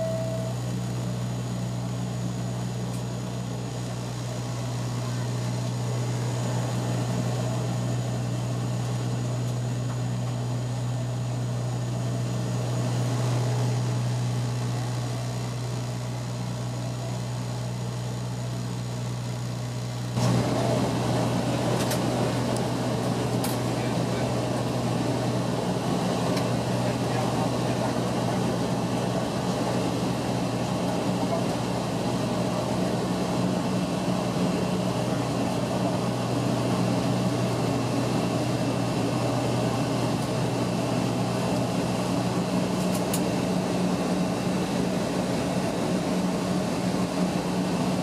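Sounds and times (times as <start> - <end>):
propeller drone: 0.0 - 48.0.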